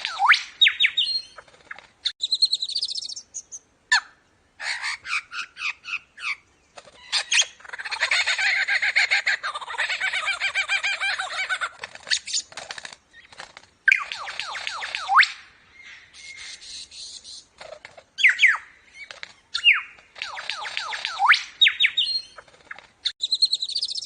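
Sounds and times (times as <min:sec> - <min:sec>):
lyrebird singing: 0:00.0 - 0:24.0.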